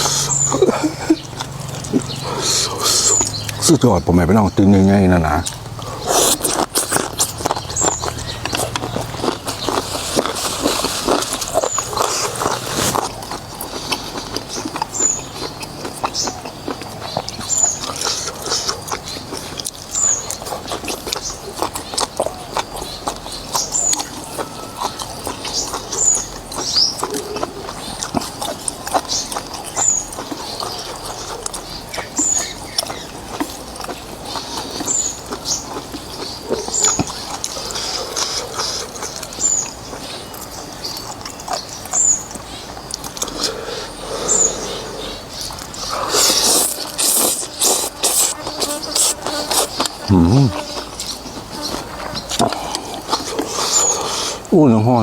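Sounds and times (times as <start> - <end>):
slurping soup: 0.0 - 3.6, 5.4 - 40.4, 41.1 - 54.6
chewing and mouth clicks: 0.0 - 3.7, 4.9 - 54.5.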